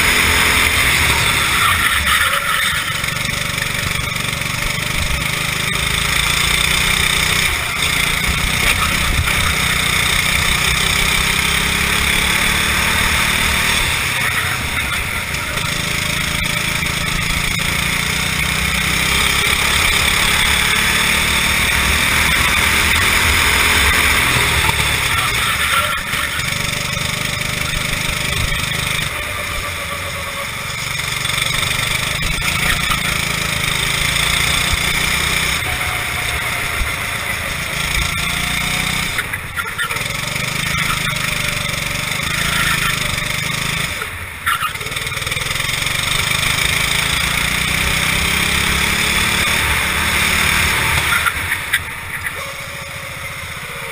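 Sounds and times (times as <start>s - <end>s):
kart engine revving: 0.0s - 53.9s.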